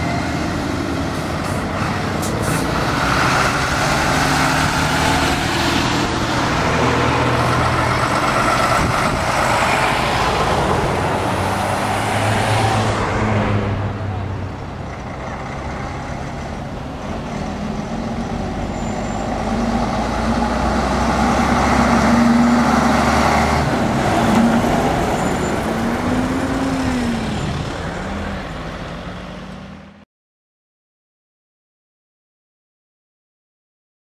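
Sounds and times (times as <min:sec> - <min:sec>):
truck driving past: 0:00.0 - 0:30.0.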